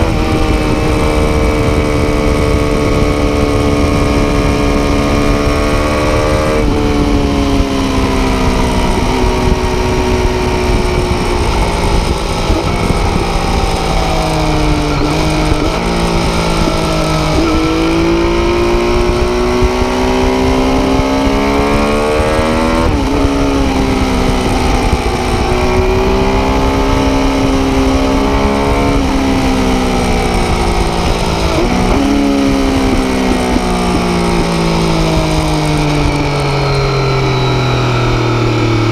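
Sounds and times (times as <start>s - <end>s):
motorcycle engine running hard: 0.0s - 38.9s.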